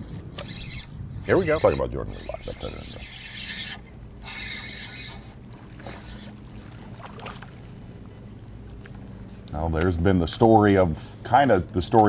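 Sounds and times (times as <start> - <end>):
wind and water hiss: 0.0 - 11.5
steady low hum: 0.0 - 12.0.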